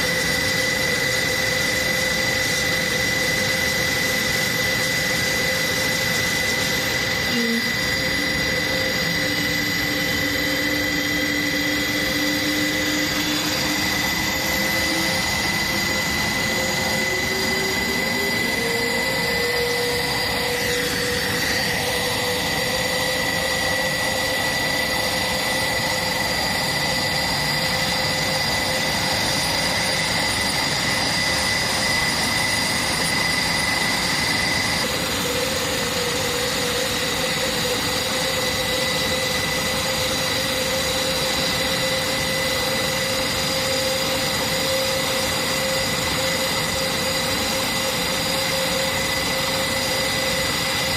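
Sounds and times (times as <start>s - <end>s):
turboprop engines whining: 0.0s - 50.9s.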